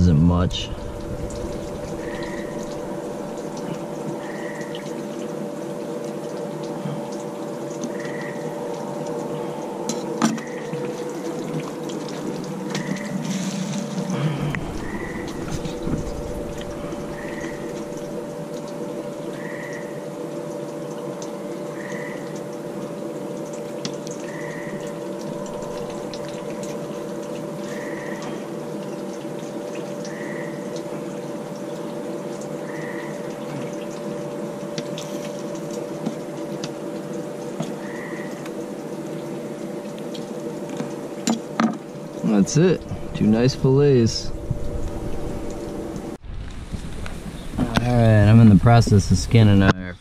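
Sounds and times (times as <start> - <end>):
steady hum with watery hiss: 0.0 - 50.0.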